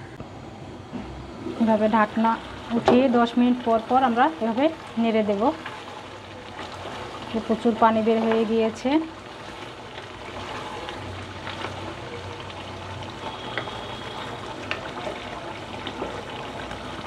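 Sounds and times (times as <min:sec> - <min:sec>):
meat simmering in a pan: 0:01.6 - 0:17.0
wooden spatula stirring and tapping: 0:02.8 - 0:17.0.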